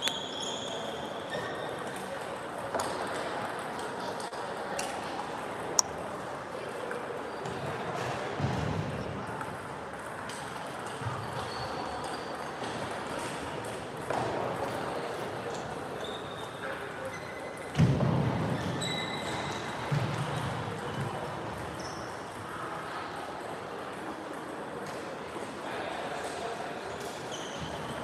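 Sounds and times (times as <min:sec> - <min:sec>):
murmur of voices: 0:00.0 - 0:28.0.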